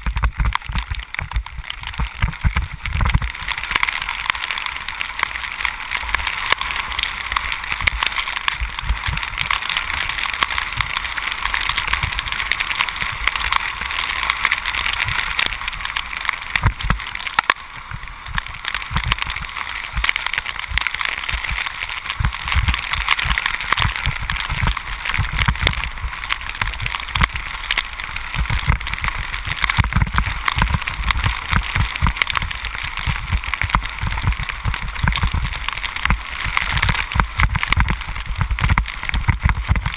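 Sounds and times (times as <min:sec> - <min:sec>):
bicycle tyres on wet road: 0:00.0 - 0:39.9
rain and water spray hiss: 0:00.0 - 0:39.9.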